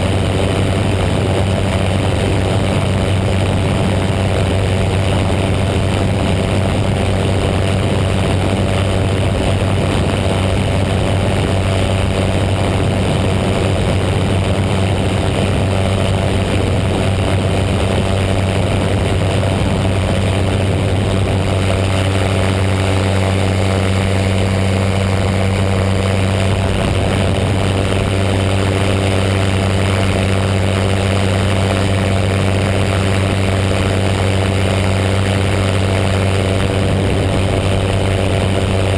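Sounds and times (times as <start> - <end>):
paramotor engine drone: 0.0 - 38.9.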